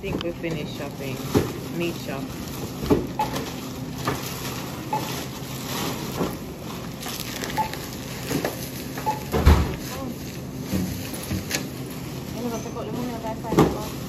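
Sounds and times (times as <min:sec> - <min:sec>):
plastic bags rustling: 0:00.0 - 0:14.0.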